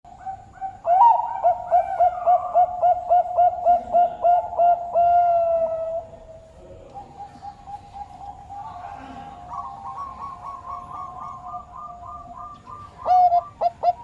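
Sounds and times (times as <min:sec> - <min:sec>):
dove cooing: 0:00.1 - 0:14.0
faint dove coos: 0:00.1 - 0:14.0.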